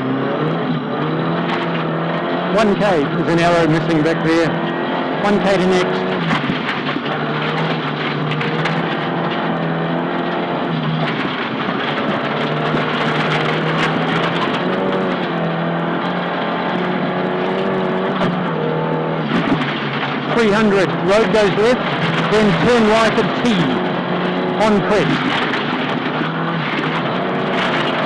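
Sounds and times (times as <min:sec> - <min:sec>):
rally car engine revving: 0:00.0 - 0:28.0
road noise: 0:00.0 - 0:28.0.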